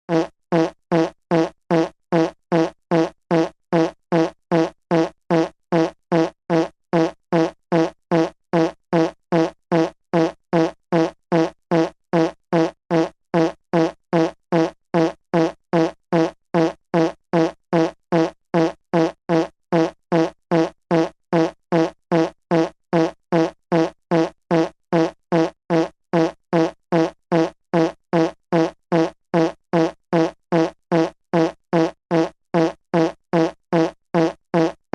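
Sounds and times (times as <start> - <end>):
buzzy fart sound effect: 0.1 - 34.9.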